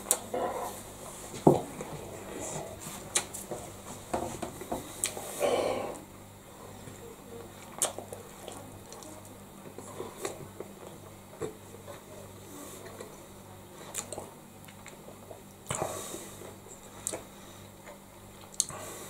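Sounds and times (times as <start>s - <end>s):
man chewing bread roll: 0.0s - 6.4s, 7.4s - 19.0s.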